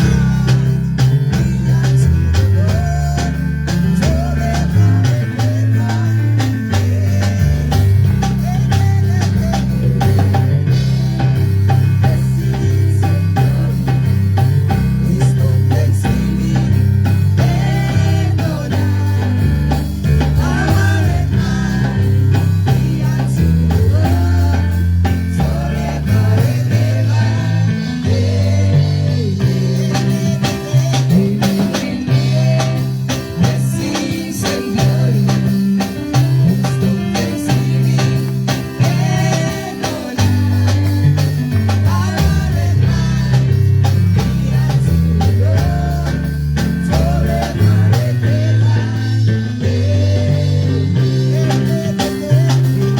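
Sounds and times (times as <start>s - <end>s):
bass line: 0.0s - 52.9s
drum kit: 0.0s - 52.9s
voices singing gospel: 0.0s - 52.9s.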